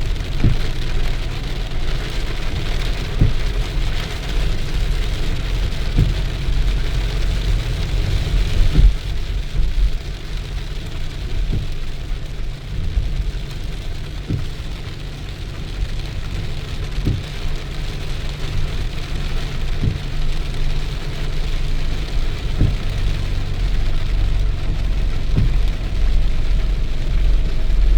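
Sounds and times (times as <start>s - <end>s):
deep rumble: 0.0s - 27.9s
steady rain: 0.0s - 27.9s.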